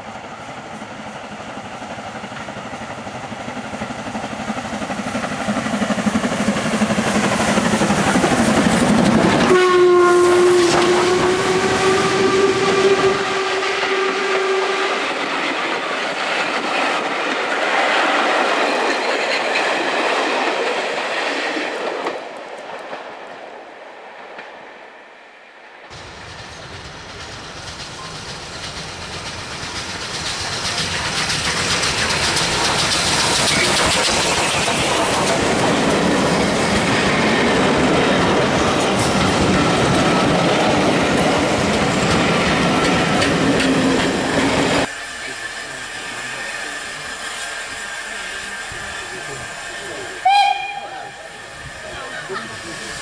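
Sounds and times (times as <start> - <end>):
train wheels clattering over track: 0.0 - 23.4, 25.9 - 53.0
steam train passing: 0.0 - 53.0.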